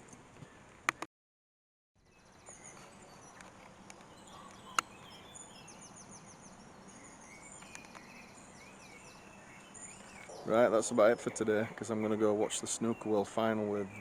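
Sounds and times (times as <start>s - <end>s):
small birds chirping: 2.0s - 14.0s.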